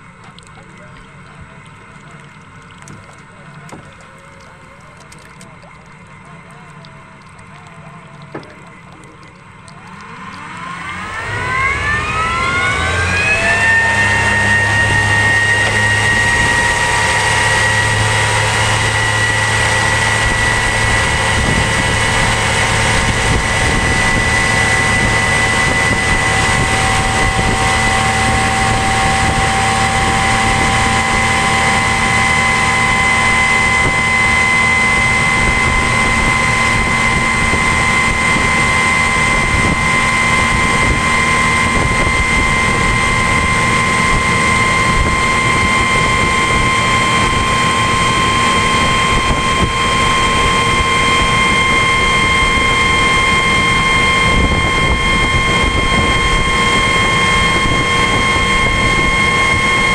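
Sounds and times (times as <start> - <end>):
electric outboard motor whine: 0.0 - 59.9
water rushing: 0.0 - 59.9
wind: 0.0 - 59.9.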